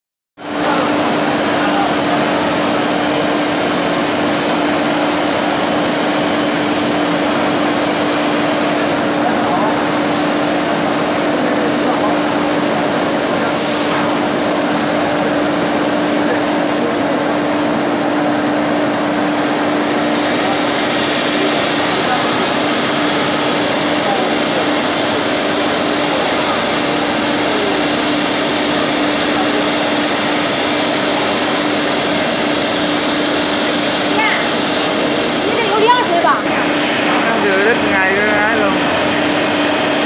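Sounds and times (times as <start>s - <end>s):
crowd babble: 0.4s - 40.0s
woodworking machinery hum: 0.4s - 40.0s.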